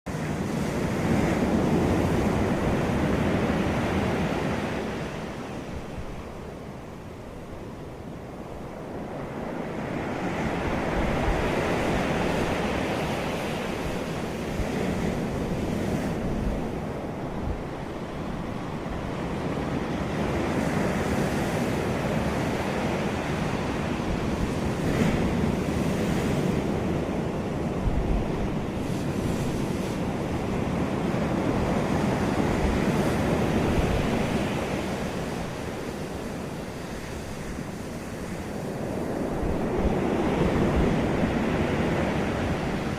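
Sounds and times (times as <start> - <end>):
ocean surf rushing: 0.1 - 42.9.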